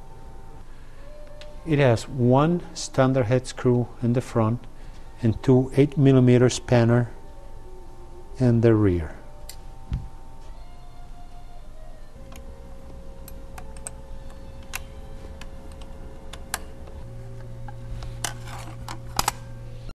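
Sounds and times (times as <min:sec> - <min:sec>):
faint steady hum: 0:00.0 - 0:20.0
lower hum: 0:00.0 - 0:20.0.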